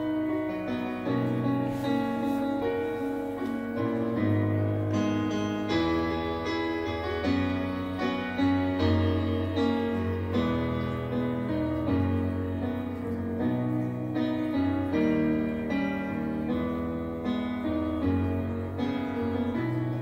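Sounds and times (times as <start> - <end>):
piano playing sustained chords: 0.0 - 20.0.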